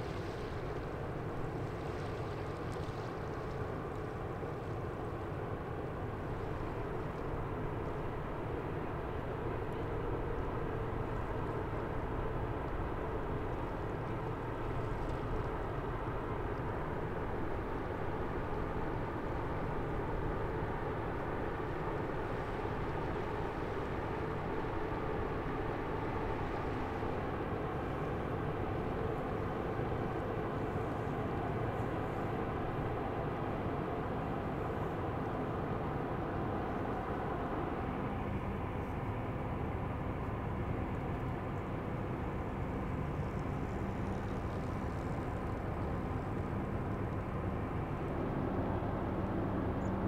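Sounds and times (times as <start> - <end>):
faint hum: 0.0 - 50.0.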